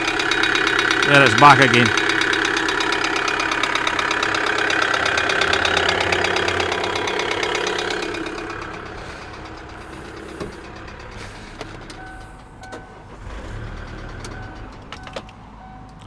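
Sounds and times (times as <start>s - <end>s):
diesel engine idling with knocking: 0.0s - 16.0s.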